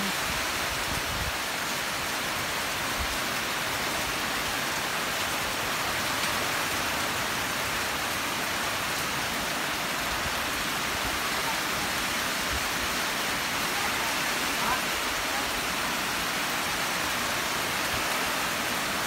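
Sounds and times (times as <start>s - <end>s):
torrential rain pouring: 0.0s - 19.0s.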